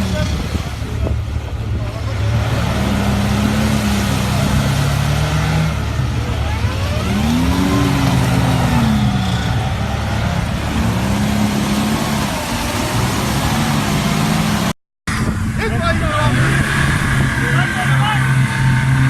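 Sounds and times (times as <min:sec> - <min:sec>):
off-road vehicle engine revving: 0:00.0 - 0:19.0
steady wash of noise: 0:00.0 - 0:19.0.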